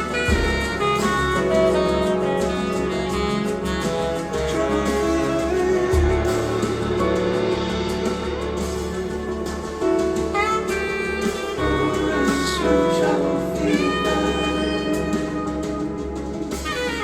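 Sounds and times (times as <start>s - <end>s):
instrumental jazz-pop over loudspeakers: 0.0s - 17.0s.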